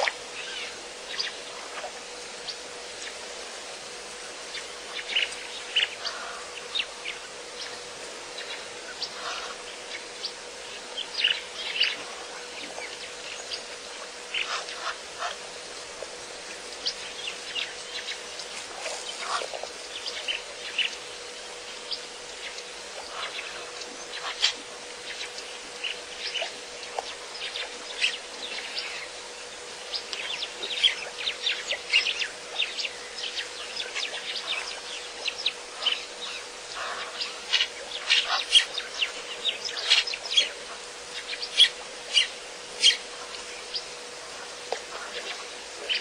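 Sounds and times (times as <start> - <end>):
birds chirping: 0.0 - 46.0
faint steady hum: 0.0 - 46.0.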